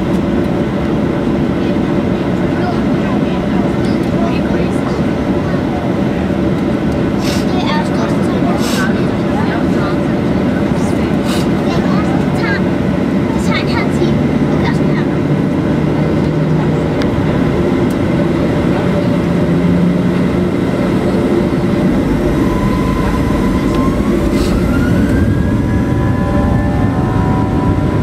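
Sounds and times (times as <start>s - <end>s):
jet engine rumble: 0.0s - 28.0s
jet engine whine rising: 0.0s - 28.0s.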